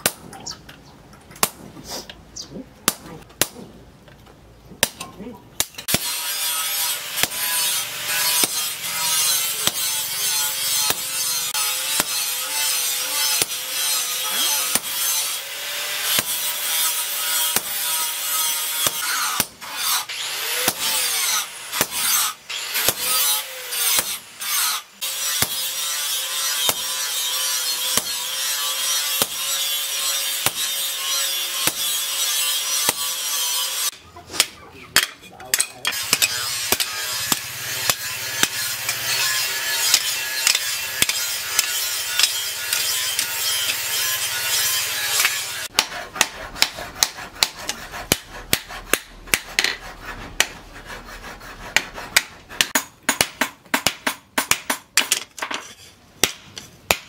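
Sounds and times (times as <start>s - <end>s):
hammer striking chisel on metal: 5.6s - 15.4s, 16.0s - 50.6s, 51.7s - 57.0s.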